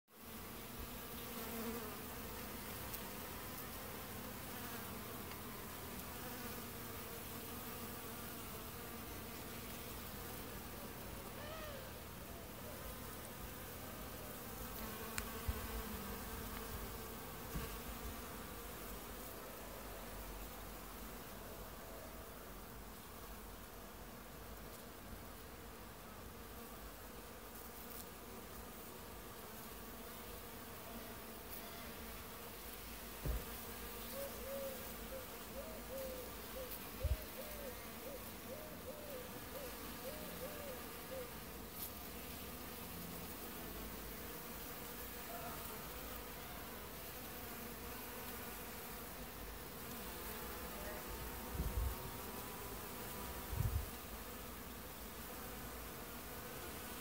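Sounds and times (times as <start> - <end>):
insects buzzing: 0.1 - 57.0.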